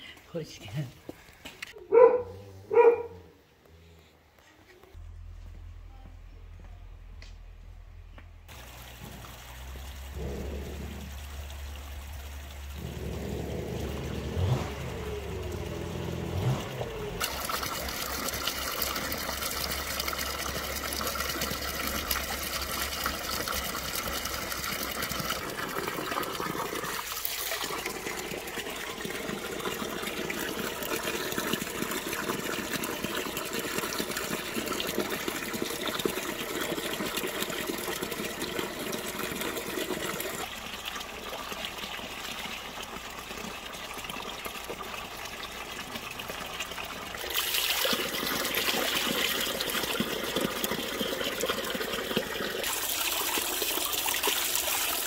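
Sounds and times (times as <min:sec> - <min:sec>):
water running and splashing: 0:08.5 - 0:55.0.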